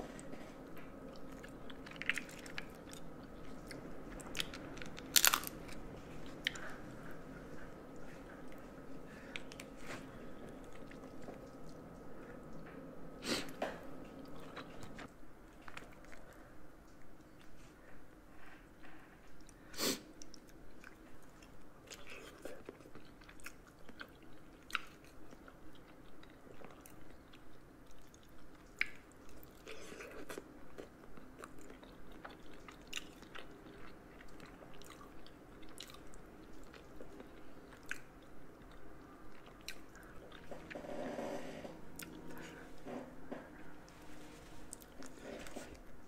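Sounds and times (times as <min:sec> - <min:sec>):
person chewing food: 0:00.1 - 0:12.8, 0:13.4 - 0:18.0, 0:20.2 - 0:40.9, 0:42.0 - 0:43.0, 0:44.6 - 0:46.0.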